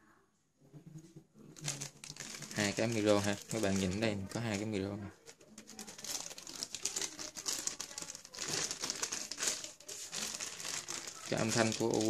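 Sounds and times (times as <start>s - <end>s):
plastic wrapping crinkling: 1.5s - 12.0s.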